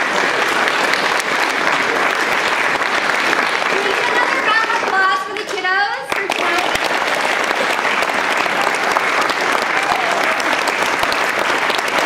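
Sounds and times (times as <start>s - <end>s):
crowd clapping: 0.0s - 12.0s.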